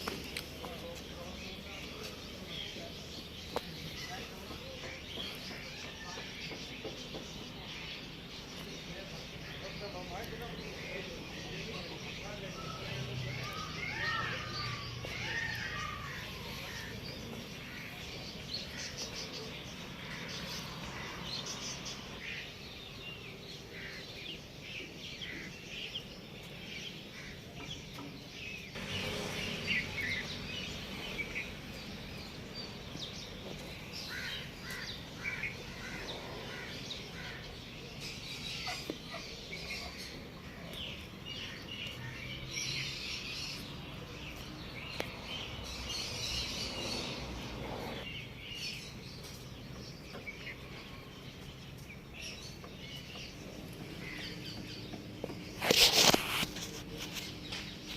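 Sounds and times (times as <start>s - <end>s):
birds chirping: 0.0s - 57.9s
steady background noise: 0.0s - 57.9s.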